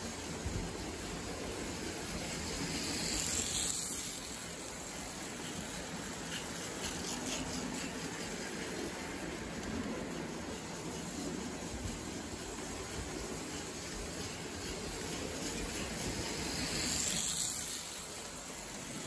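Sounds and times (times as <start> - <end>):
model train rolling rumble and hiss: 0.0 - 19.0.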